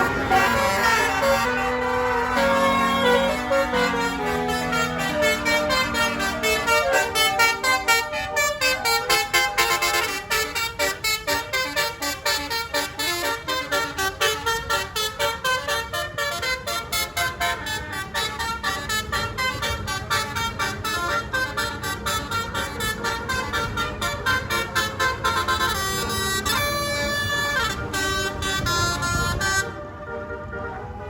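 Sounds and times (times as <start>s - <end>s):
bus musical horn tune: 0.0s - 31.0s.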